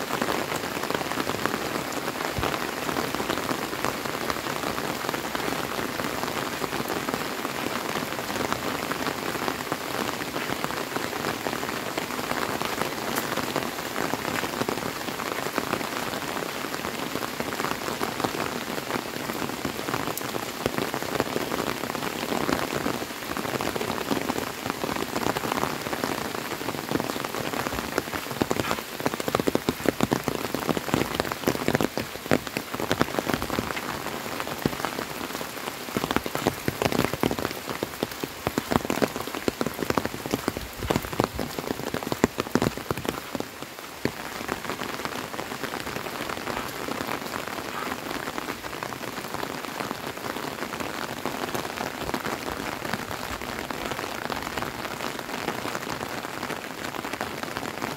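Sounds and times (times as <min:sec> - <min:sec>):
close raindrop hits: 0:00.0 - 0:57.9
steady rain falling: 0:00.0 - 0:57.9.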